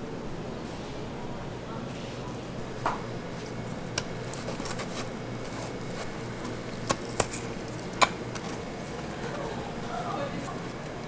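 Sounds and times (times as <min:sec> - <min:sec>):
steady kitchen hum: 0:00.0 - 0:11.0.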